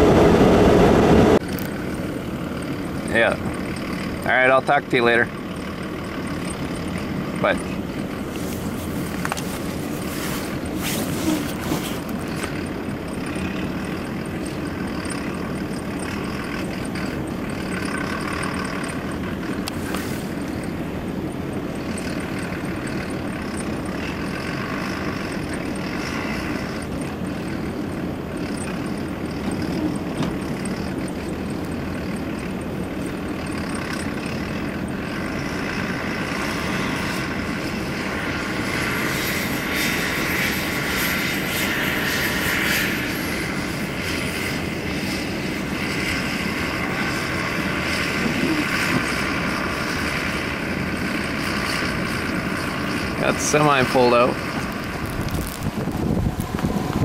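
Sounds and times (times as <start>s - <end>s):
engine and road drone in cab: 0.0s - 57.0s.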